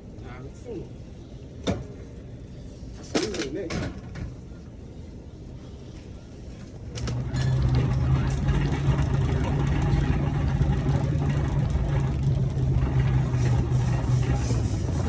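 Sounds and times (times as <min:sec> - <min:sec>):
low mechanical hum: 0:00.0 - 0:15.0
rough noisy background: 0:00.0 - 0:15.0.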